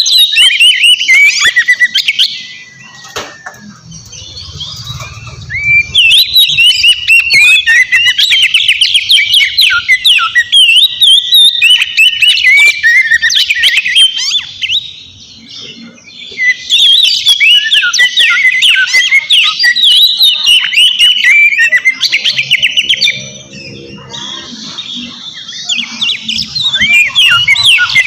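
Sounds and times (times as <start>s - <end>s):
bird singing whistled notes: 0.0s - 28.0s.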